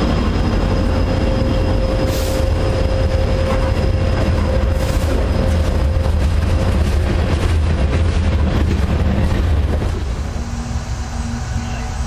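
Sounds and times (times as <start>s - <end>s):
steady whine: 0.0s - 12.0s
train wheels rumbling on rail: 0.0s - 12.0s.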